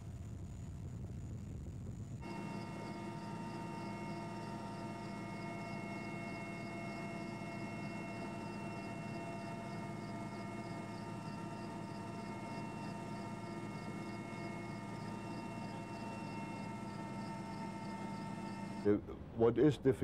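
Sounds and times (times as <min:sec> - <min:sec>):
helicopter droning: 0:00.4 - 0:19.5.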